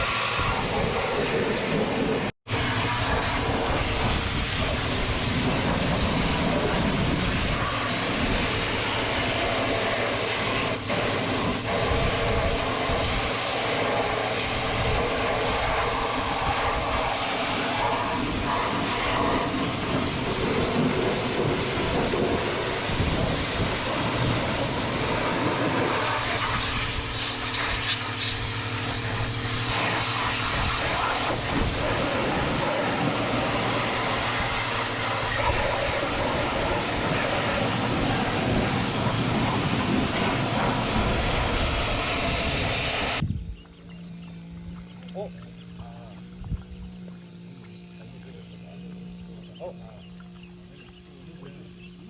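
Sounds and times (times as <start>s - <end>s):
pressure washer water jet hissing: 0.0s - 43.2s
washer pump humming: 0.0s - 52.0s.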